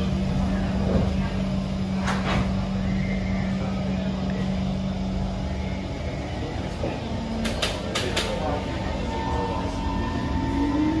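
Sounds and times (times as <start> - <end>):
steady hum: 0.0 - 11.0
train rumble from inside: 0.0 - 11.0.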